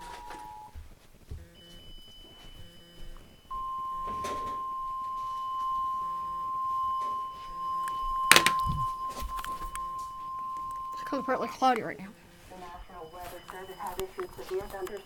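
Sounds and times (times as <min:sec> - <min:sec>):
steady alert tone: 0:01.6 - 0:14.5.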